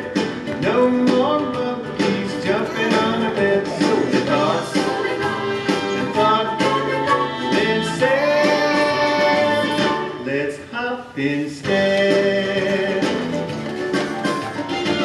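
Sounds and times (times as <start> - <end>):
guitar: 0.0 - 10.7, 11.6 - 15.0
person singing: 0.0 - 13.4.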